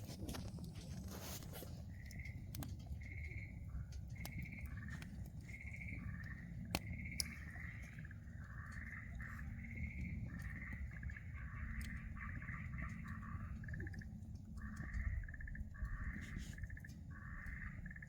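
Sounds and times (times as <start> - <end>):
steady low rumble: 0.0 - 18.0
frogs calling with trills: 1.3 - 18.0.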